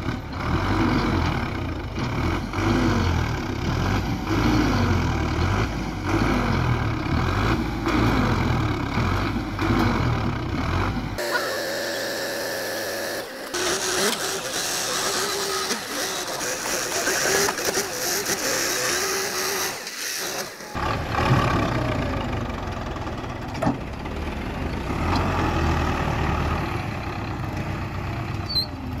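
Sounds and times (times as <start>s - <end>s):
tractor diesel engine: 0.0s - 29.0s.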